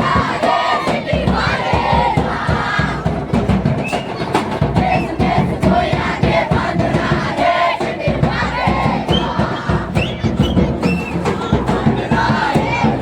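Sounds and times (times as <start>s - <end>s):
children singing and shouting: 0.0s - 13.0s
quick drum beats: 0.0s - 13.0s.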